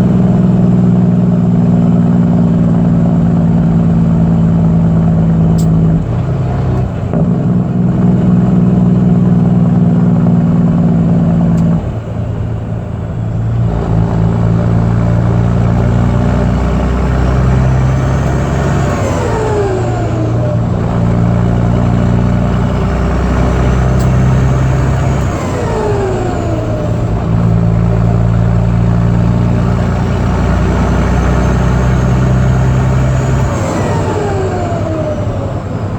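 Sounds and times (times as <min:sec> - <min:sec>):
diesel engine accelerating: 0:00.0 - 0:35.9.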